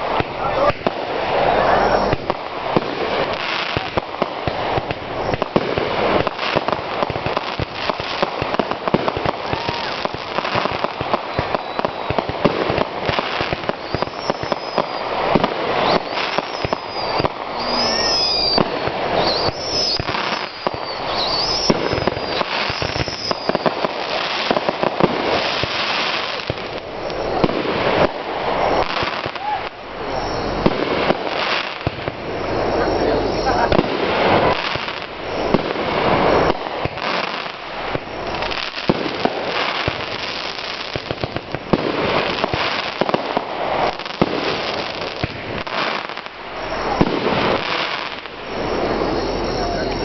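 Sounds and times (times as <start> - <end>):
fireworks bursting and crackling: 0.0 - 50.0
high fireworks whistles: 0.0 - 50.0.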